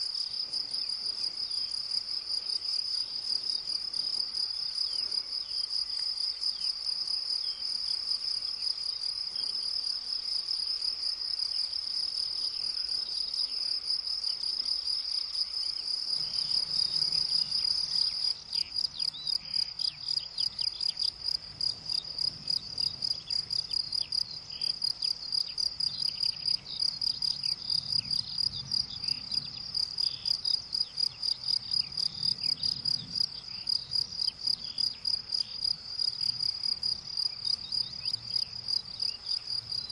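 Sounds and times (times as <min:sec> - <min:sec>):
insects stridulating: 0:00.0 - 0:39.9.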